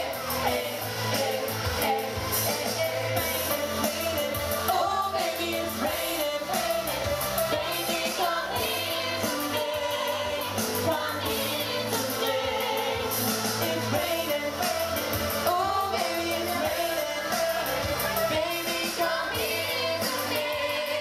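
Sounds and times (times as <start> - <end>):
backing track with steady beat: 0.0 - 21.0
lead singer and choir singing: 0.0 - 21.0.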